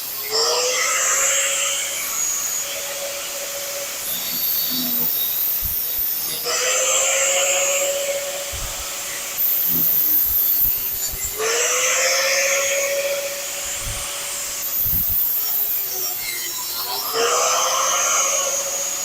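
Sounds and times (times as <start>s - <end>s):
air tool cutting sheet metal: 0.0s - 19.0s.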